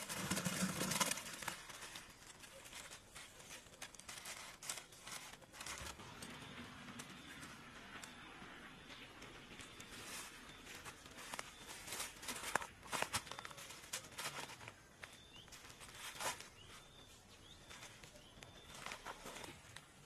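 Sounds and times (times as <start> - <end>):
dry leaves and branches rustling: 0.0 - 20.0.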